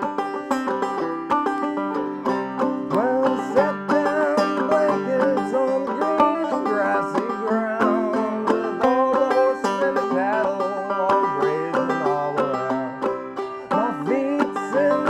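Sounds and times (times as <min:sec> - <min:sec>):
banjo plucking: 0:00.0 - 0:15.0
man singing: 0:02.8 - 0:15.0.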